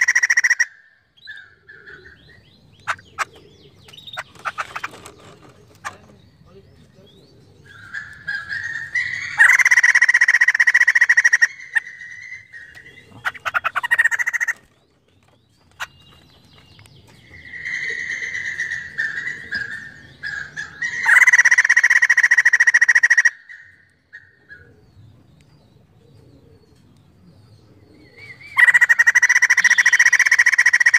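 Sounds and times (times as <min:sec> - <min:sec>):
bird chattering calls: 0:00.0 - 0:06.6, 0:07.2 - 0:14.8, 0:15.6 - 0:24.8, 0:28.1 - 0:30.9.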